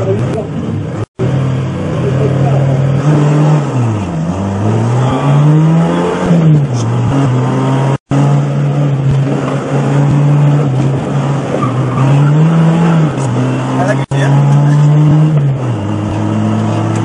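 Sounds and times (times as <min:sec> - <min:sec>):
car engine pulling uphill: 0:00.0 - 0:17.0.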